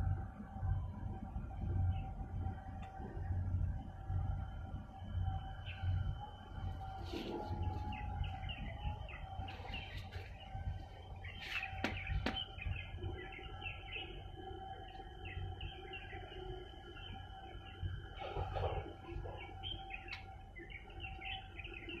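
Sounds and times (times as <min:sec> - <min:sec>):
low uneven rumble: 0:00.0 - 0:21.6
faint steady hum: 0:00.0 - 0:22.0
birds chirping: 0:01.6 - 0:22.0.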